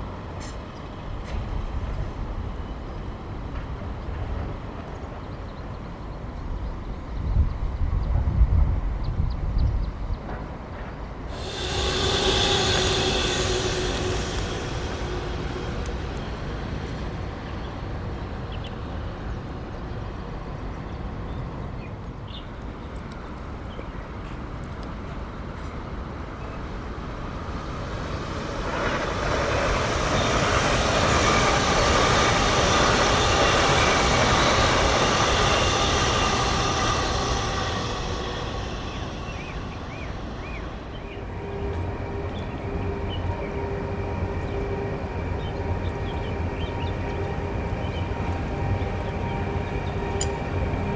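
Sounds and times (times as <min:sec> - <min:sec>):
train running past: 0:00.0 - 0:50.9.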